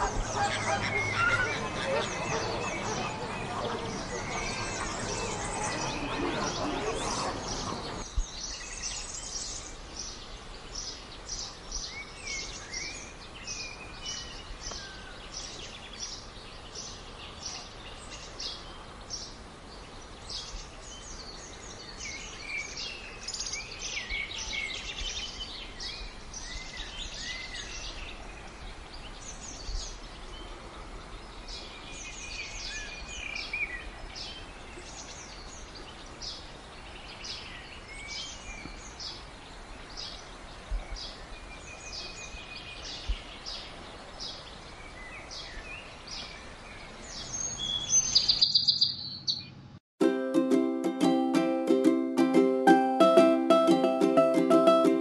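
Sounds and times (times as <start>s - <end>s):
small birds chirping: 0.0s - 49.6s
outdoor background hiss: 0.0s - 55.0s.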